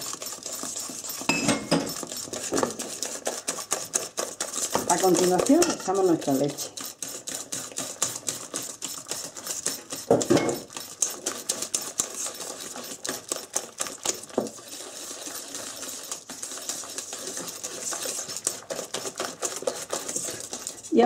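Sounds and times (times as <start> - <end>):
whisk clicking in metal bowl: 0.0 - 21.0.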